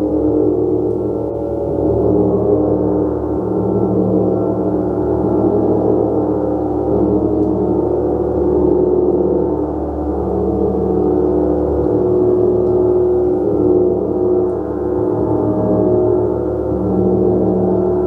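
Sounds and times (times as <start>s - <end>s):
gong playing: 0.0s - 18.0s.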